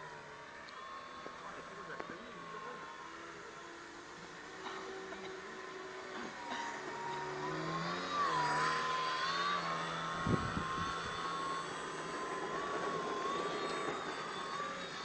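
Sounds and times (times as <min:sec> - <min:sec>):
model jet motor whining: 0:00.0 - 0:15.0.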